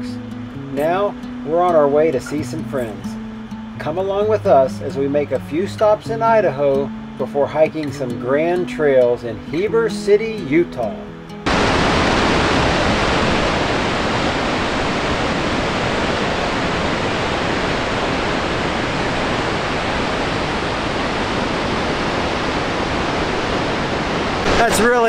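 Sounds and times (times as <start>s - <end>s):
waterfall rushing: 0.0s - 8.2s, 11.4s - 25.0s.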